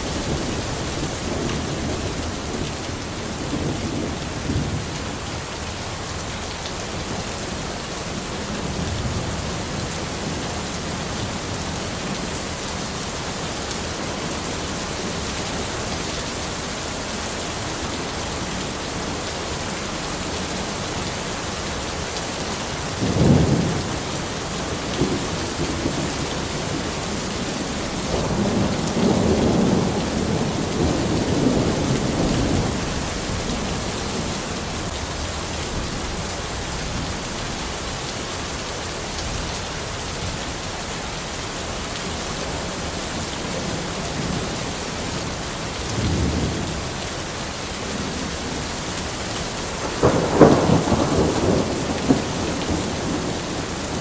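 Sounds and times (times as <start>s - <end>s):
rain falling in a forest: 0.0s - 54.0s.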